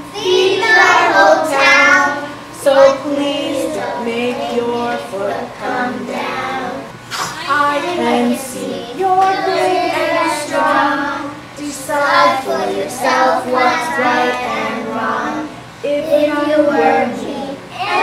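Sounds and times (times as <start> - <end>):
child singing: 0.1 - 18.0.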